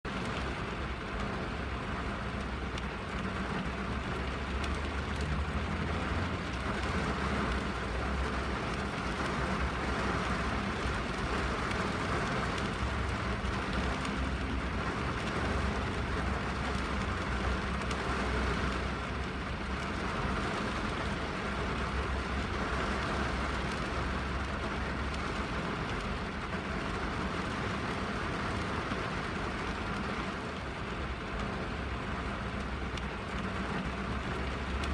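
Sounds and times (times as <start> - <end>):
rain on a car roof: 0.0 - 34.9.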